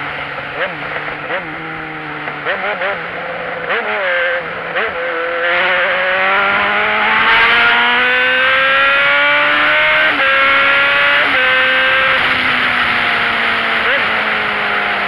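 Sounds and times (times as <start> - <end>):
engine accelerating hard: 0.0 - 15.0.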